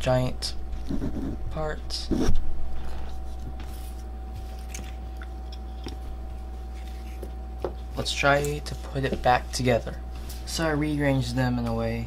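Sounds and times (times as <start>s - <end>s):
electrical hum with thin tone: 0.0s - 12.0s.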